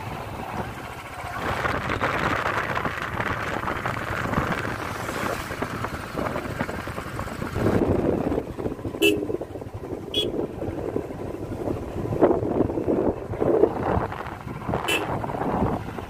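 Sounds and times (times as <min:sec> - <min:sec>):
motorbike engine hum: 0:00.0 - 0:16.0
tyre and wind rush: 0:00.0 - 0:16.0.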